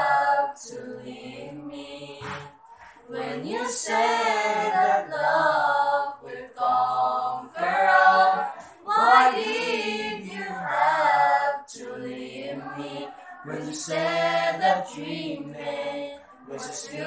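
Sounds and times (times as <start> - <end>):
group singing a cappella: 0.0 - 17.0.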